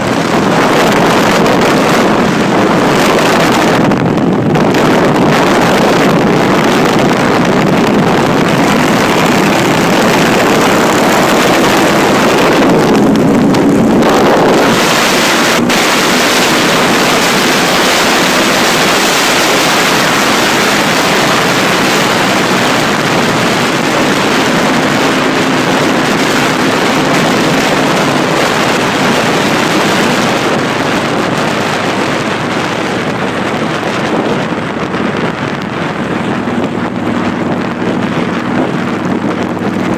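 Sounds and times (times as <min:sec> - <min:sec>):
motorcycle engine: 0:00.0 - 0:39.9
wind rushing over microphone: 0:00.0 - 0:39.9.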